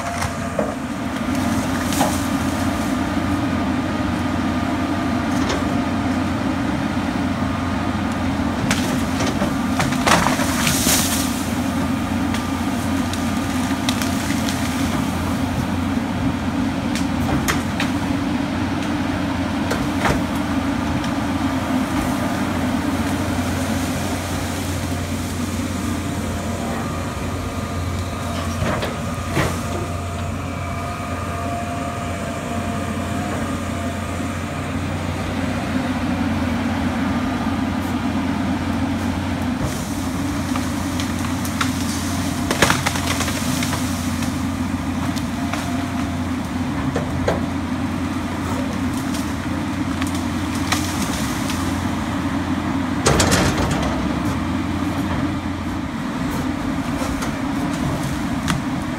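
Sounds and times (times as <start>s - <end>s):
branches and trunks cracking: 0.0s - 3.1s, 8.0s - 36.0s, 38.4s - 58.9s
excavator diesel engine running: 0.0s - 58.9s.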